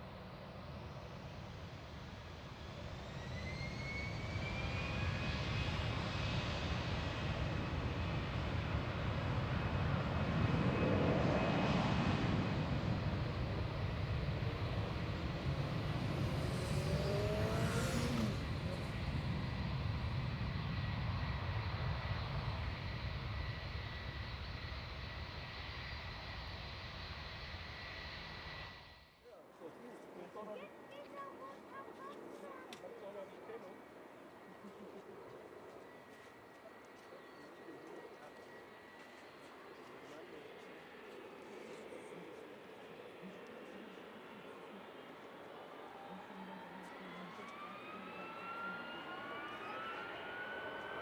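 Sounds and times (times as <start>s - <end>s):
jet engines with high whine: 0.0s - 51.0s.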